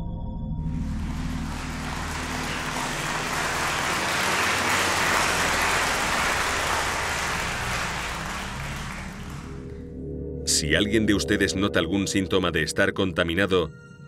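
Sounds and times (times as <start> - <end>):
low steady drone: 0.0 - 13.1.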